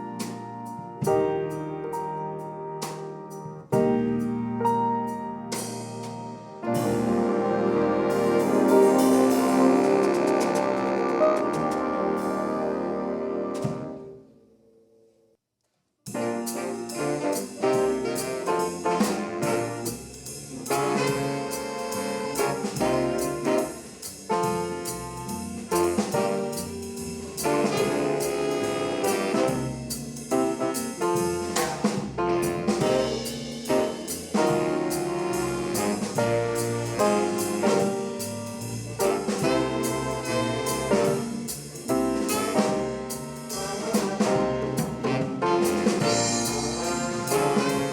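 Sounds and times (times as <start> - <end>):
jazz big band playing: 0.0 - 14.2, 16.1 - 47.9
previous music: 2.9 - 14.4, 16.1 - 47.9.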